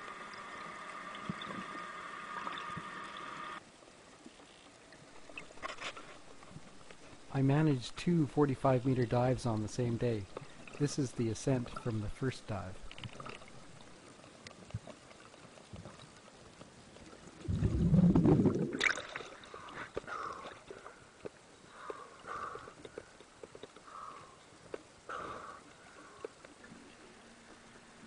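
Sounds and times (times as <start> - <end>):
faint underwater clicks: 0.0 - 27.8.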